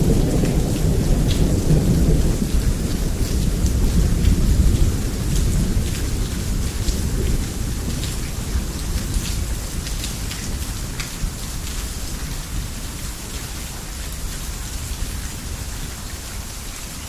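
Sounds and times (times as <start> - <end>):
low rumble of thunder: 0.0 - 14.2
heavy rain on a roof: 0.0 - 17.0.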